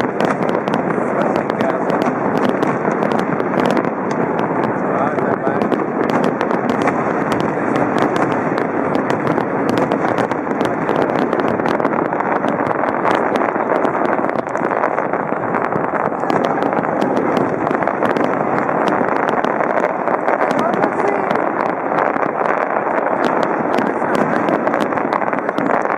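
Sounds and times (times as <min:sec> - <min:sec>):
fireworks bangs: 0:00.0 - 0:25.9
rapid crackling pops: 0:00.0 - 0:25.9.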